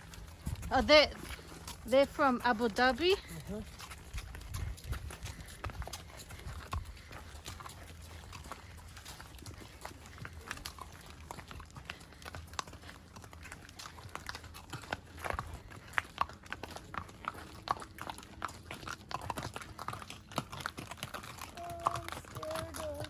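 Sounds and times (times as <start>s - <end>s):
horses' hooves clopping: 0.0s - 23.0s.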